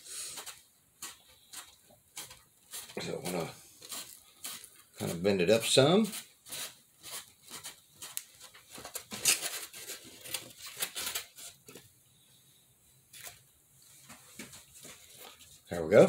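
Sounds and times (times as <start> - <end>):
cardboard crinkling and creasing: 0.2 - 11.9, 13.1 - 15.7.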